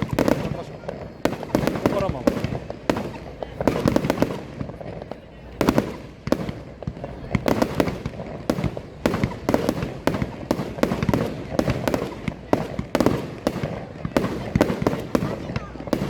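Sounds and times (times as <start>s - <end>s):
fireworks bangs with rumbling echo: 0.0s - 16.0s.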